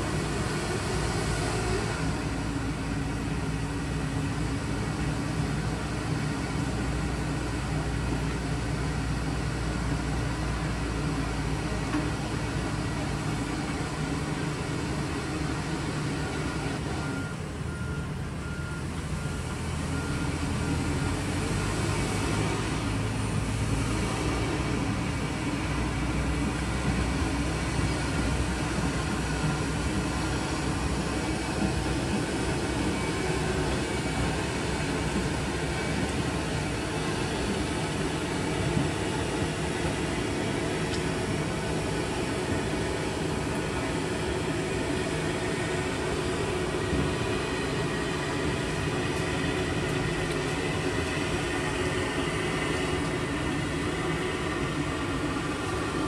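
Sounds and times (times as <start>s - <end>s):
diesel engines running: 0.0s - 56.0s
street sweeper truck driving past: 0.0s - 56.0s.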